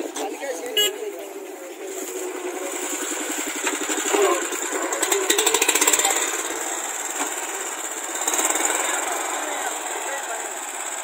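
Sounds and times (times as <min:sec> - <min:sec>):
small tractor engine running: 0:00.0 - 0:11.0
rotary weeder churning soil: 0:01.9 - 0:11.0.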